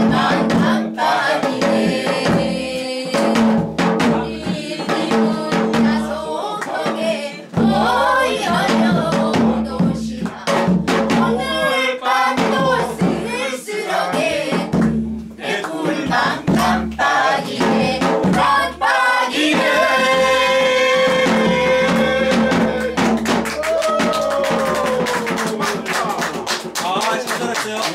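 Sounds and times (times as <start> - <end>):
group singing folk song: 0.0 - 23.4
drum beating rhythm: 0.0 - 27.9.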